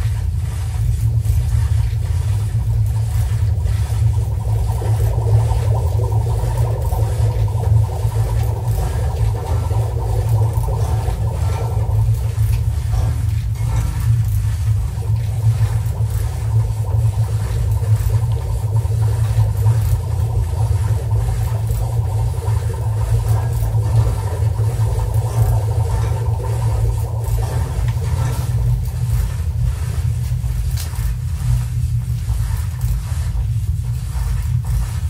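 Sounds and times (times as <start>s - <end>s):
loud low drone: 0.0s - 35.0s
rough grinding layer: 0.0s - 35.0s.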